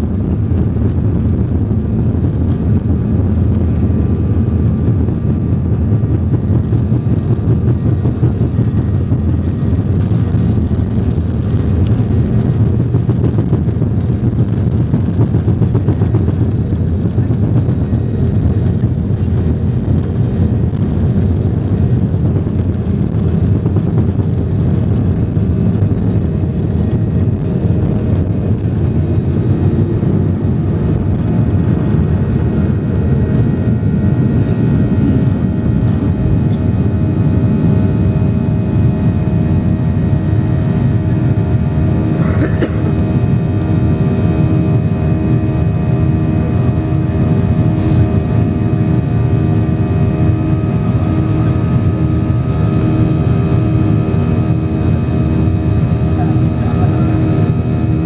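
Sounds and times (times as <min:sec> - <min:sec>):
jet engine noise: 0:00.0 - 0:58.0
wheels running on tarmac: 0:00.0 - 0:58.0.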